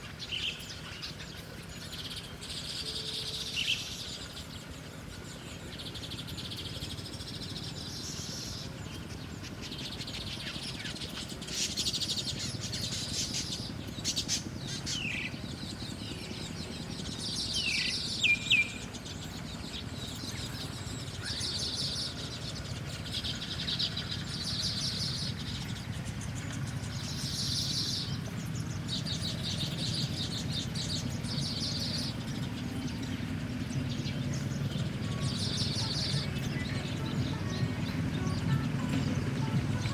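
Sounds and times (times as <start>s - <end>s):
low background hum: 0.0s - 39.9s
small birds chirping: 0.0s - 39.9s.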